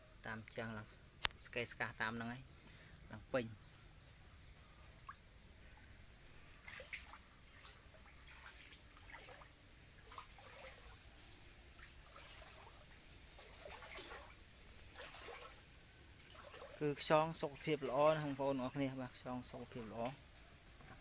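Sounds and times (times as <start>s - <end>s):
water trickling and dripping: 3.6s - 21.0s.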